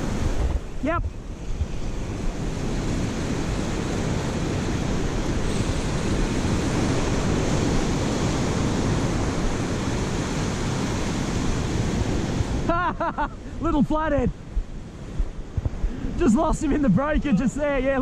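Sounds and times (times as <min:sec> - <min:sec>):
surf breaking on sand: 0:00.0 - 0:18.0
wind buffeting microphone: 0:00.0 - 0:18.0.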